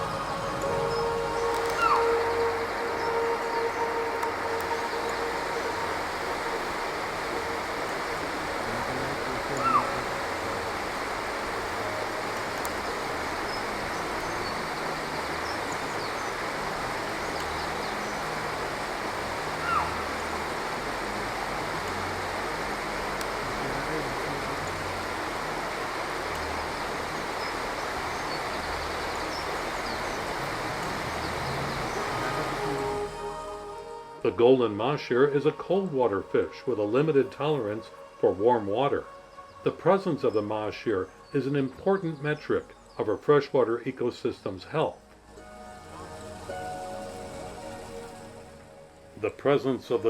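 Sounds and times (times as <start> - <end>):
water flowing: 0.0 - 50.0.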